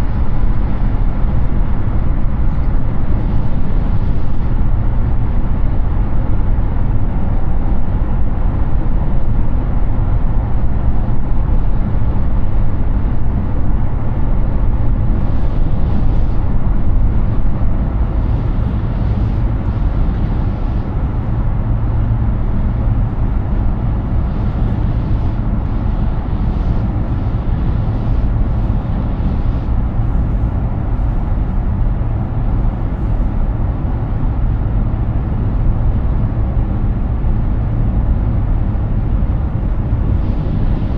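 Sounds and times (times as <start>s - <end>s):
car tyre and wind noise: 0.0s - 40.9s.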